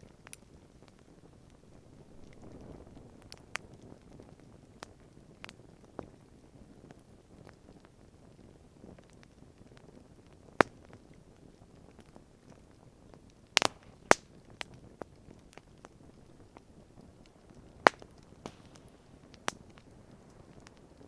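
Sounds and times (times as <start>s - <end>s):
campfire wood crackling and popping: 0.0s - 21.0s
low steady hiss: 0.0s - 21.0s.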